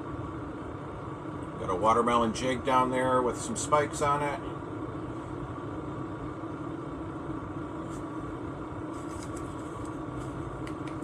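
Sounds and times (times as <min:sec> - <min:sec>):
diesel heater humming: 0:00.0 - 0:11.0.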